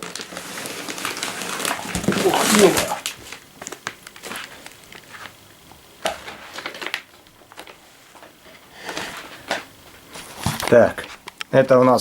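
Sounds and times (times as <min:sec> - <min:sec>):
cardboard packaging rustling: 0:00.0 - 0:05.4, 0:06.1 - 0:08.2, 0:09.0 - 0:11.3.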